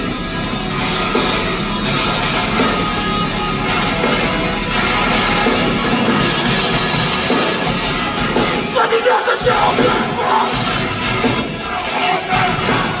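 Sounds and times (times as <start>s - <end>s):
metalcore band playing live: 0.0s - 13.0s
vocals: 0.0s - 13.0s.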